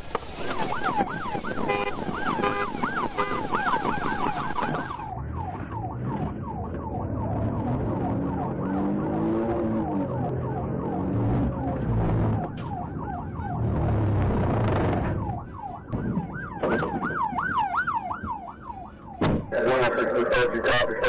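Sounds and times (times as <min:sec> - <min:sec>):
car engine and road noise: 0:00.0 - 0:21.0
police siren on yelp: 0:00.4 - 0:21.0.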